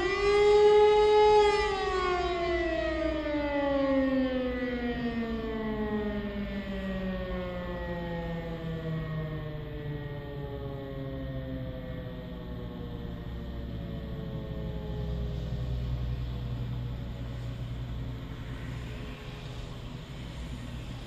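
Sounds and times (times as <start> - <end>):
siren winding down: 0.0 - 21.0.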